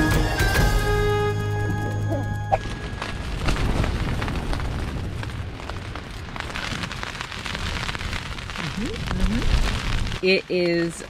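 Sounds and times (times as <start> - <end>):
rain and sand pattering on tent: 1.6 - 11.0.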